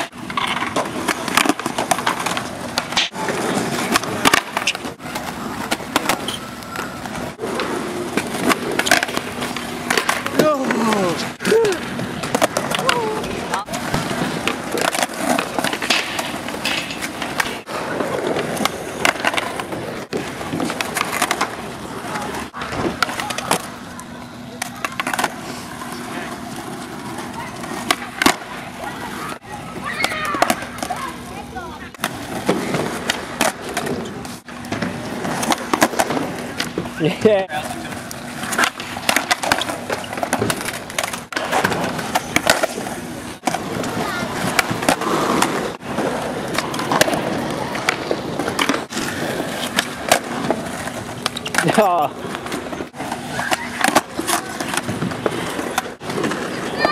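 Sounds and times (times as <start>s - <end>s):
skateboard tails clacking: 0.0s - 56.9s
skateboards rolling on asphalt: 0.0s - 56.9s.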